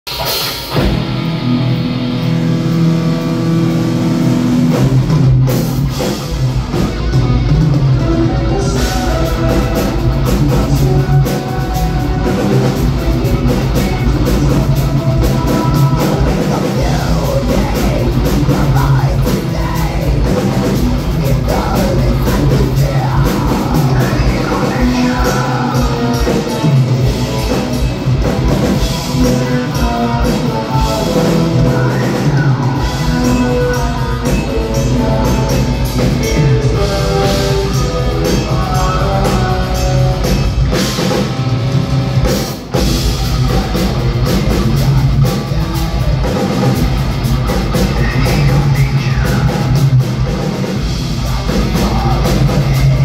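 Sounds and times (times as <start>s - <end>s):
metal band playing live: 0.0s - 53.0s
fast drumming: 0.1s - 53.0s
held guitar chords: 0.1s - 53.0s.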